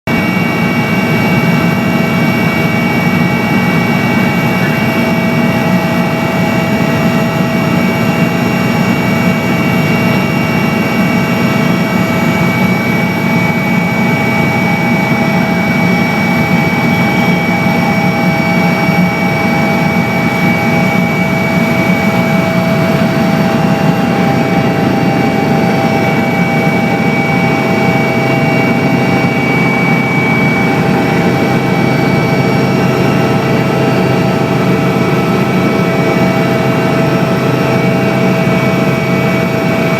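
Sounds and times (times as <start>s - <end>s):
helicopter engine and rotors drone: 0.1s - 39.9s
high whining tones: 0.1s - 39.9s.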